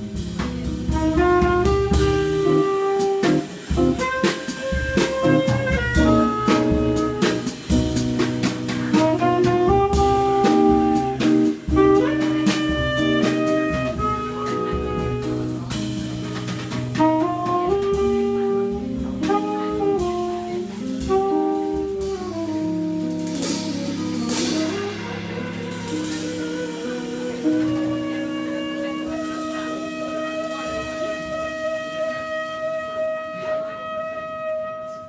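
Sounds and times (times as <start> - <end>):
cymbals: 0.0 - 35.0
drum kit: 0.0 - 35.0
tenor saxophone melody: 0.9 - 8.0, 8.9 - 16.0, 16.9 - 35.0.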